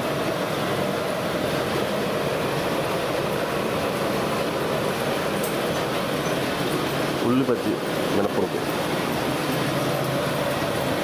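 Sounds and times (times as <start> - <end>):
batter frying in hot oil: 0.0 - 11.0
gas burner rushing: 0.0 - 11.0.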